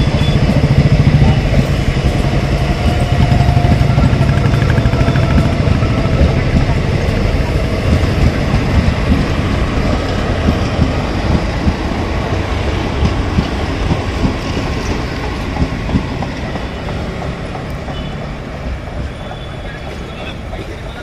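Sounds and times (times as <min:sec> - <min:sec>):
train wheels clattering on track: 0:00.0 - 0:21.0.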